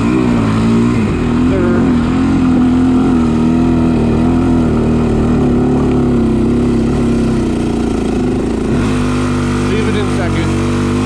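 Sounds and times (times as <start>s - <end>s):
quad engine revving under load: 0.0s - 11.0s.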